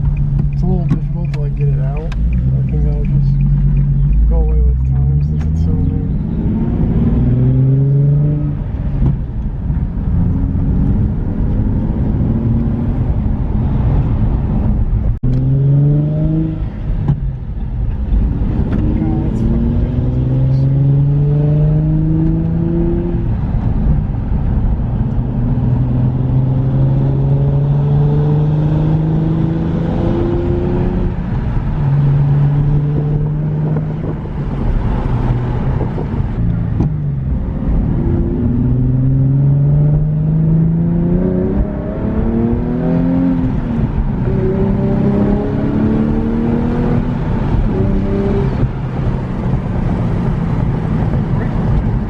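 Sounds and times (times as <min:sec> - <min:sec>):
car engine accelerating through gears: 0:00.0 - 0:52.0.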